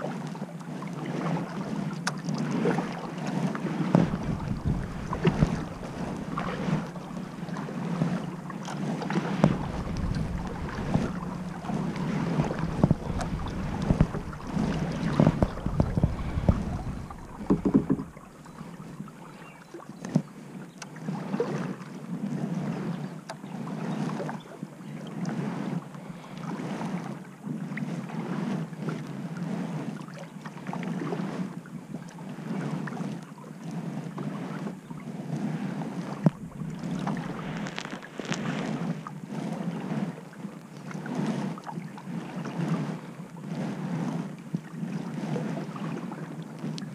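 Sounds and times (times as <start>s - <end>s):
paddle strokes swishing in water: 0.0s - 46.9s
wind rumble on microphone: 0.0s - 46.9s.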